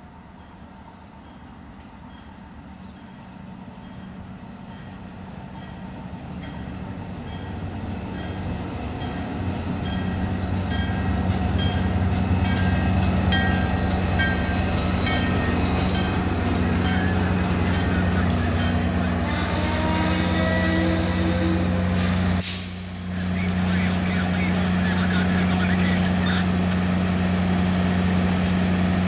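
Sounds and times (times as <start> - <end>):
train passing with low hum: 0.0 - 29.0.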